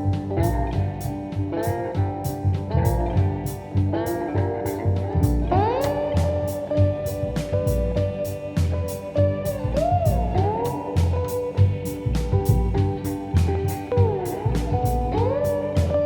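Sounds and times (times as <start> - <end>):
guitar instrumental over a beat: 0.0 - 16.0.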